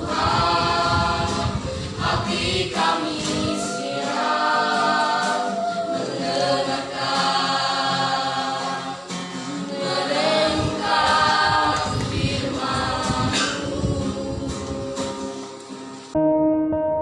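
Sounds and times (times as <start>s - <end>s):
choir singing a cappella: 0.0s - 15.8s.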